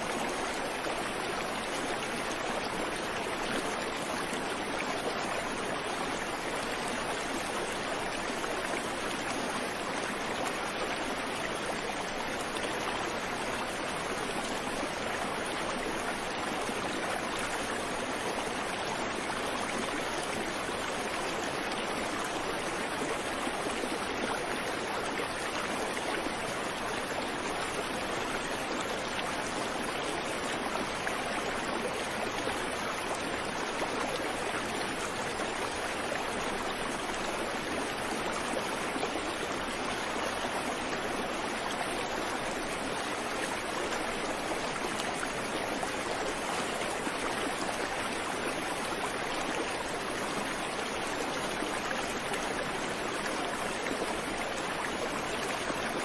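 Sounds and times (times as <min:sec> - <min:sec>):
creek water flowing over rocks: 0:00.0 - 0:56.0.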